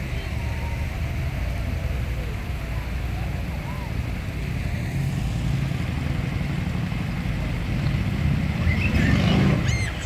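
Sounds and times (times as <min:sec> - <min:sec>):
traffic and crowd rumble: 0:00.0 - 0:10.0.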